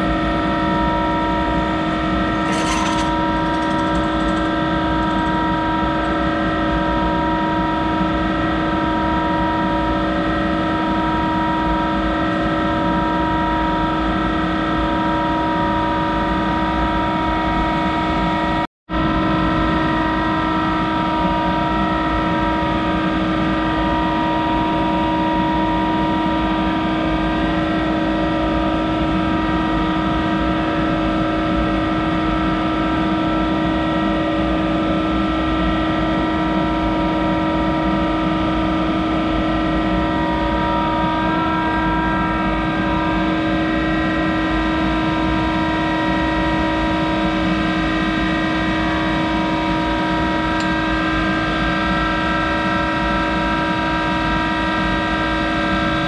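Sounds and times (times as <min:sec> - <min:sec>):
lathe running with whining tones: 0:00.0 - 0:31.0, 0:35.2 - 0:56.0.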